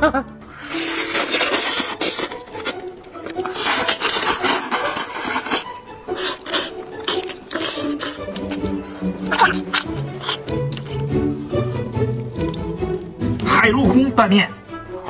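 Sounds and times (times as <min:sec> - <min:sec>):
person chewing meat: 0:00.5 - 0:13.5.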